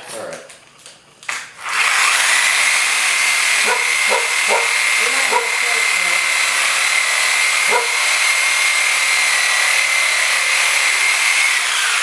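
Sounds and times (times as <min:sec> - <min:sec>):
reciprocating saw cutting frozen meat: 0:01.6 - 0:12.0.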